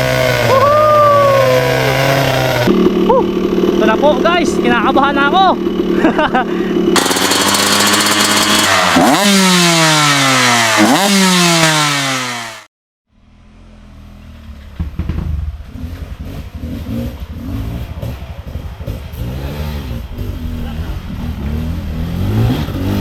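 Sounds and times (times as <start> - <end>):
dirt bike engine revving hard: 0.0 - 12.7, 15.6 - 23.0
engine running low: 0.0 - 23.0.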